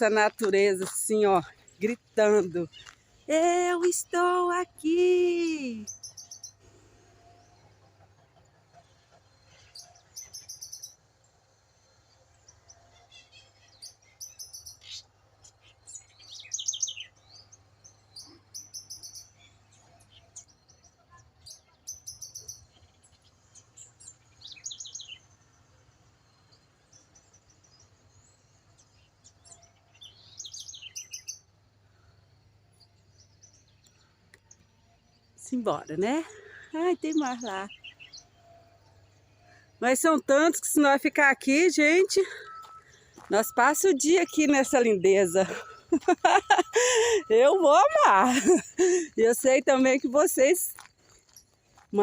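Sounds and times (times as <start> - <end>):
wild birds chirping and trilling: 0.0 - 3.3, 5.8 - 52.0.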